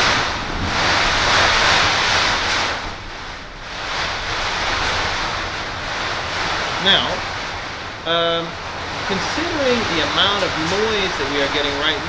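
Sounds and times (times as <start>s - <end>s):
heavy rain: 0.0s - 12.0s
thunder: 0.0s - 12.0s.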